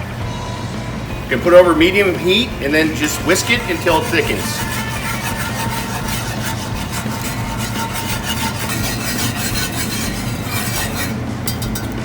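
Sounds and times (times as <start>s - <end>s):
whisk scraping cast iron skillet: 1.0s - 12.0s.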